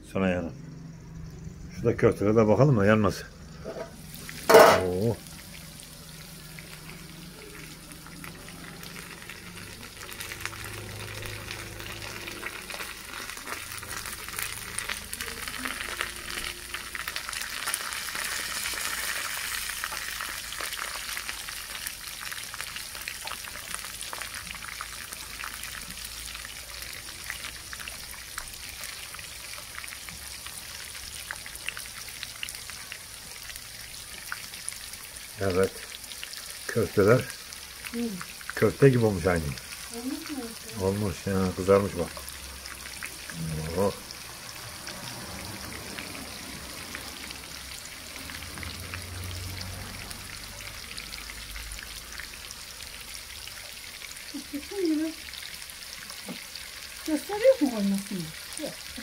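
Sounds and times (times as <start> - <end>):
meatballs frying in oil: 0.0 - 59.0.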